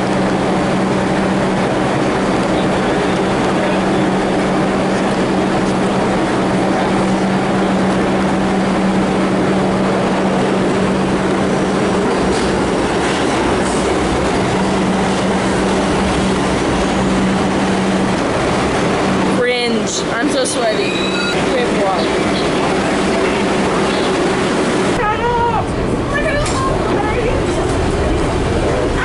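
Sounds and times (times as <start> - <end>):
vehicle rumbling: 0.0 - 29.0.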